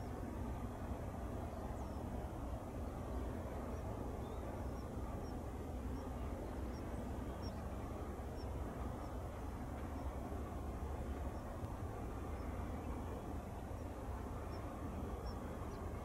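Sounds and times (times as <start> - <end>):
low harbour rumble: 0.0 - 16.0.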